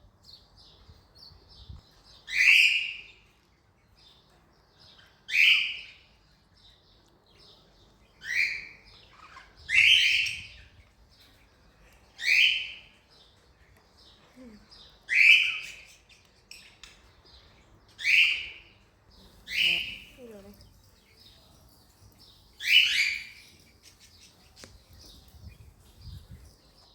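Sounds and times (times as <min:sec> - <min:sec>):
soft bird chirps: 0:00.2 - 0:26.9.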